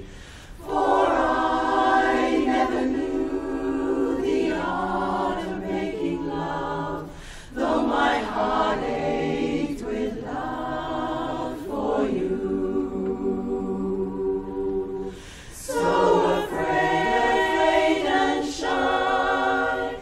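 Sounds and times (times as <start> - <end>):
women's chorus singing in harmony: 0.0 - 20.0.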